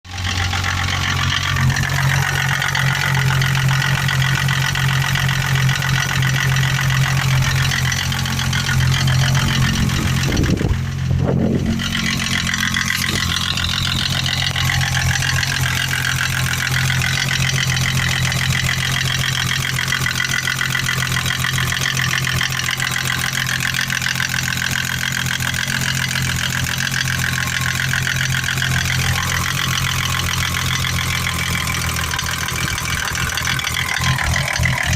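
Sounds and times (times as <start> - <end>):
engine idling with regular knock: 0.1 - 34.9.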